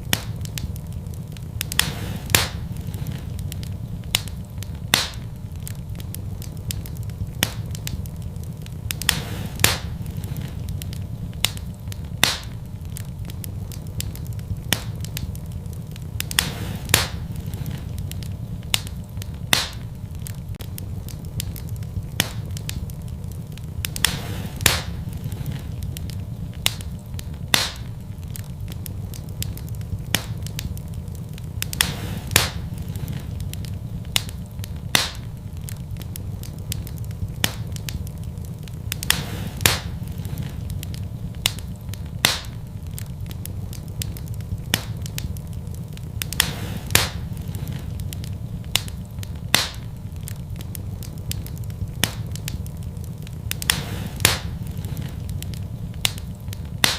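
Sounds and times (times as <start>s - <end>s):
logs crackling and popping: 0.0s - 56.9s
low rumble of flame: 0.0s - 56.9s.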